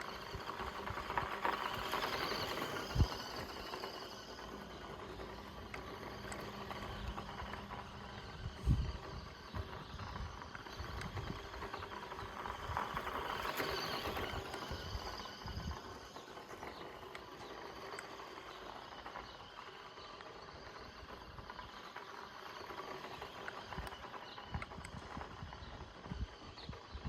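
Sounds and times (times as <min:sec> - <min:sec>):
toy car crunching over dirt: 0:00.0 - 0:27.0.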